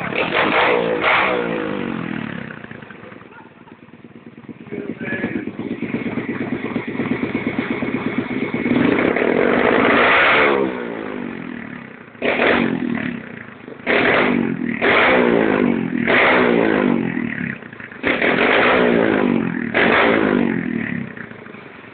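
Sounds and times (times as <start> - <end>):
motorbike engine revving: 0.0 - 21.9.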